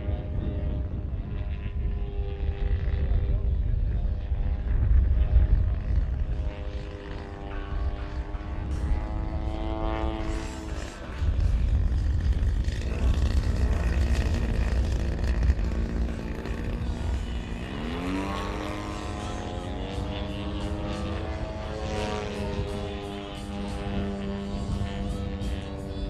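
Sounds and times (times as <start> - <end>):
heavy low rumble: 0.0 - 26.0
model plane engine buzzing: 0.0 - 26.0.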